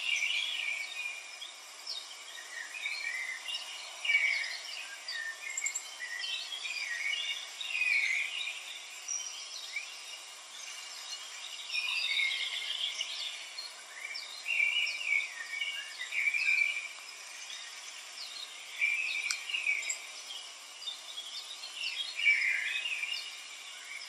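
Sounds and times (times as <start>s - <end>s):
birds chirping: 0.0s - 24.0s
steady outdoor hiss: 0.0s - 24.0s.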